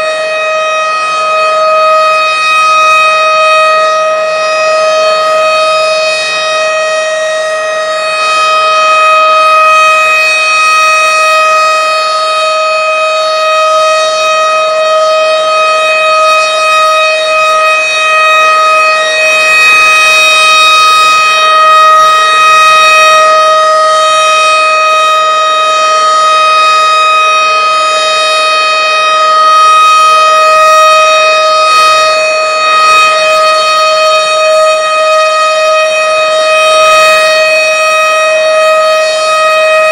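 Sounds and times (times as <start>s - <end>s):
warning sirens wailing: 0.0s - 39.9s.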